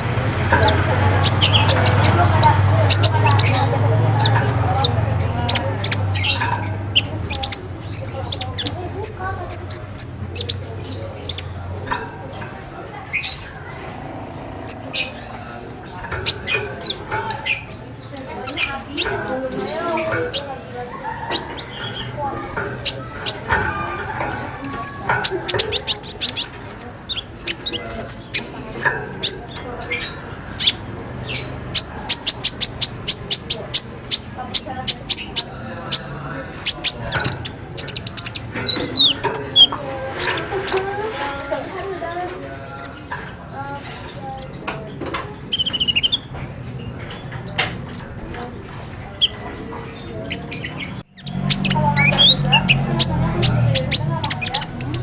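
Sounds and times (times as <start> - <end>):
bird chirping: 0.0 - 55.0.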